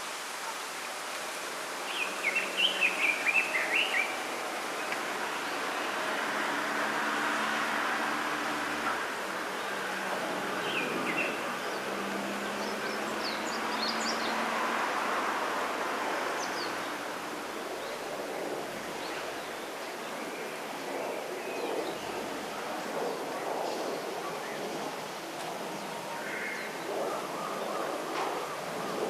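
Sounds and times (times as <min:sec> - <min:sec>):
wind rustling through bamboo: 0:00.0 - 0:29.0.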